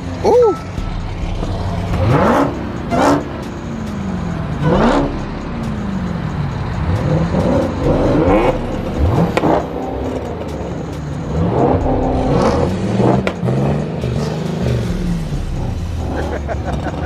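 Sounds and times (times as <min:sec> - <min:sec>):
car engines revving: 0:00.0 - 0:17.0
drone of running engines: 0:00.0 - 0:17.0.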